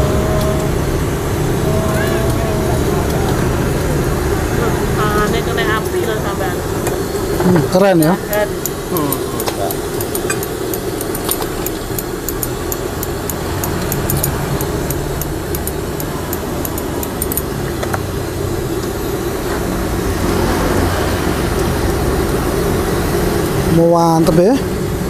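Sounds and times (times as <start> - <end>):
street noise rumble: 0.0 - 25.0.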